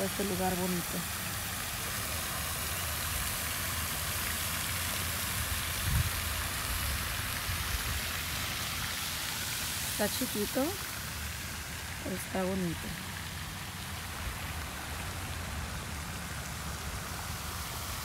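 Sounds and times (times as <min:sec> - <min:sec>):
fountain spray splashing: 0:00.0 - 0:18.0.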